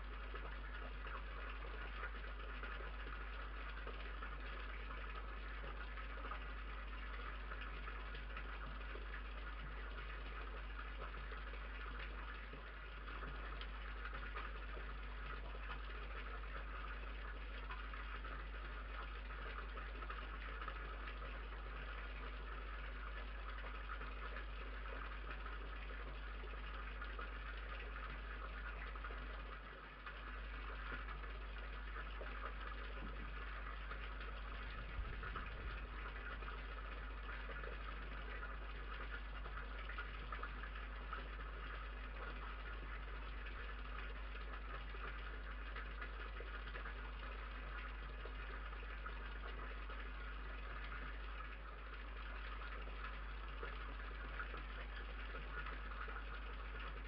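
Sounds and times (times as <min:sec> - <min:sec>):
low electrical hum and hiss: 0:00.0 - 0:57.0.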